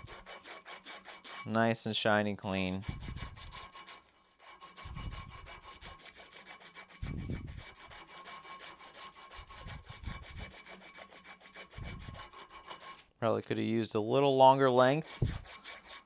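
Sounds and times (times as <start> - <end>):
sandpaper scratching copper pipe: 0.0 - 1.7, 2.5 - 13.2, 14.4 - 16.0.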